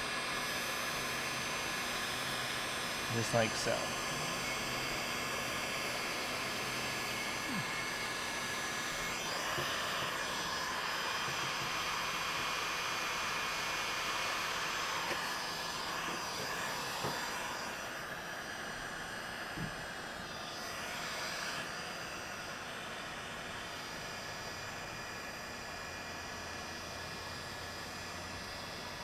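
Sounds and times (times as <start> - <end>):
heat gun fan blowing: 0.0 - 29.0.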